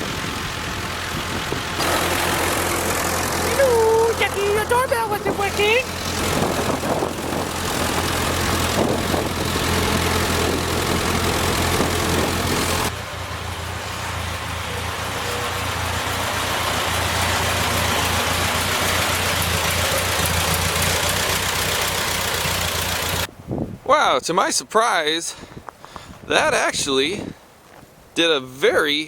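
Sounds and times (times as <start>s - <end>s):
tractor engine running: 0.0s - 23.3s
noisy rush: 0.0s - 23.4s.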